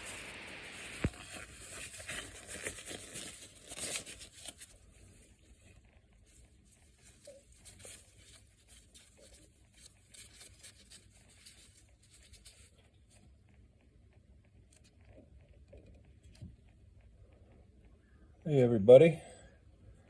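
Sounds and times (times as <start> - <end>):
soft ticks and rustles: 0.0 - 18.2.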